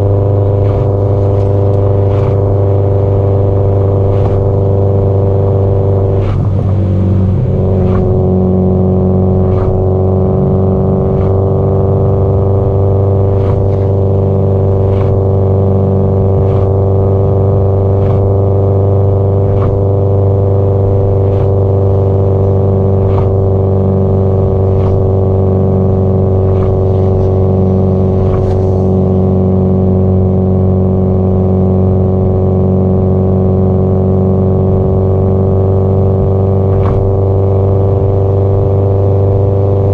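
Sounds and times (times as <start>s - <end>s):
car engine cruising: 0.0s - 39.9s.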